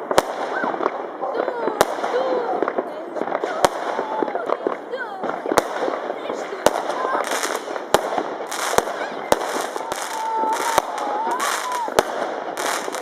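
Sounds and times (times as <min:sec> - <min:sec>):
crackle of small explosions: 0:00.0 - 0:13.0
fireworks bangs: 0:00.0 - 0:13.0.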